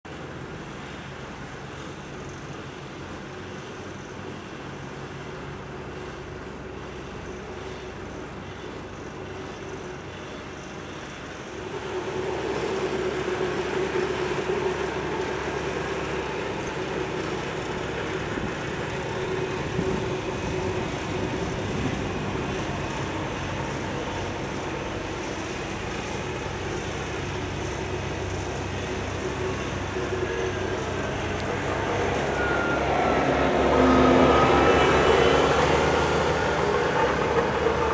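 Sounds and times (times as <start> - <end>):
heavy diesel engines running: 0.1 - 37.9.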